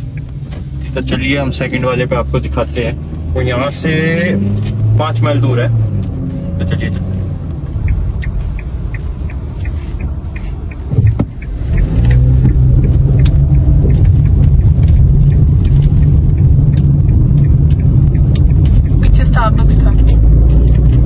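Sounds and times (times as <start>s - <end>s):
car engine and road rumble: 0.0s - 21.0s
faint regular ticking: 0.0s - 21.0s.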